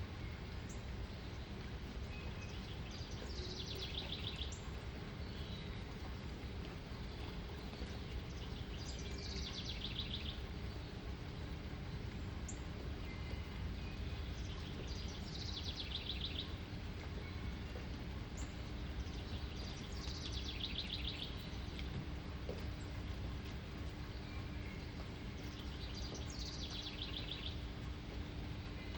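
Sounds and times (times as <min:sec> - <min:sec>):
songbird singing: 0:00.0 - 0:28.9.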